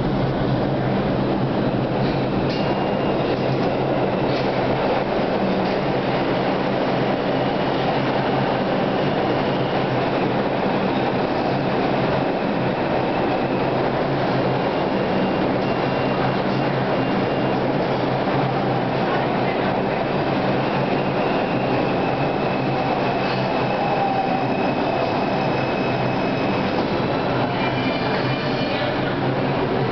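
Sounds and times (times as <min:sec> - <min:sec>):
subway train rumbling: 0:00.0 - 0:29.9.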